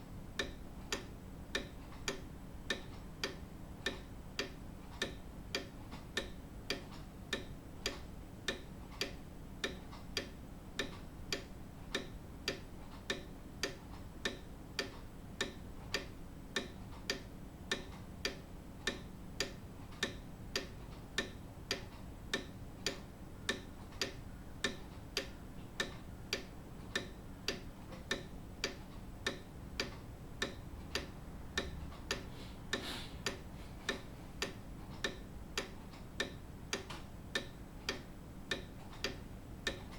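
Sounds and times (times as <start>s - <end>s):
clock ticking: 0.3s - 39.9s.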